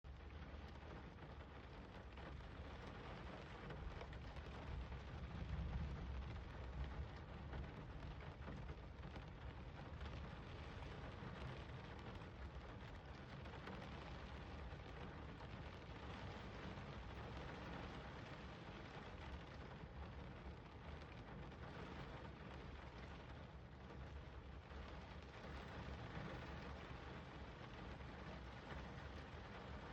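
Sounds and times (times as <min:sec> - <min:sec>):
steady rain hissing: 0:00.1 - 0:29.9.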